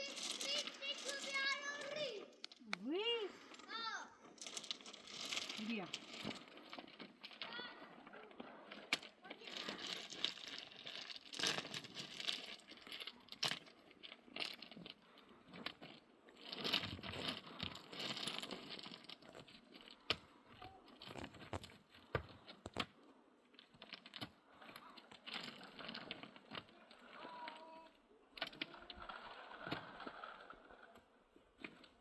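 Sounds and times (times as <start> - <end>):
rustling: 0.0 - 32.0.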